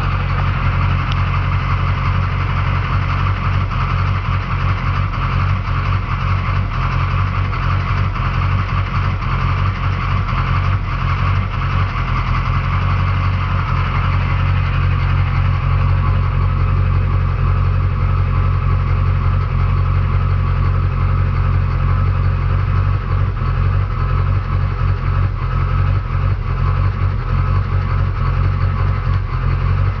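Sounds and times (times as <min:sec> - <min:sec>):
diesel truck engine idling roughly: 0:00.0 - 0:30.0.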